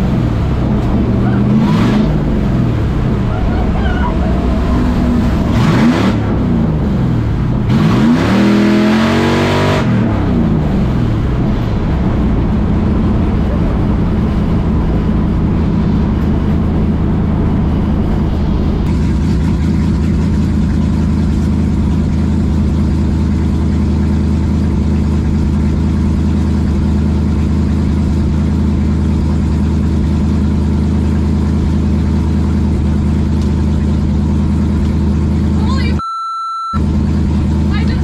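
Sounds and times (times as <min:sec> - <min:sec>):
car engine running low: 0:00.0 - 0:36.0, 0:36.8 - 0:38.0.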